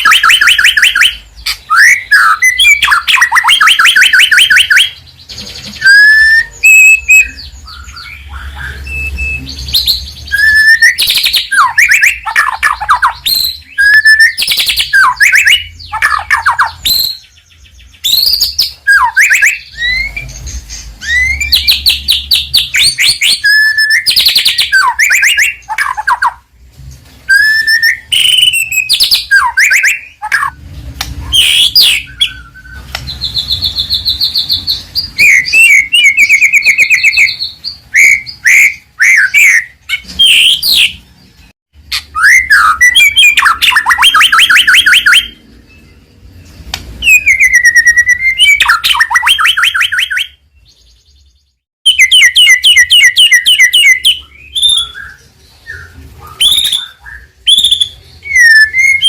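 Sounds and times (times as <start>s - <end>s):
bird whistles and trills: 0.0s - 26.5s, 27.2s - 51.3s, 51.9s - 59.0s.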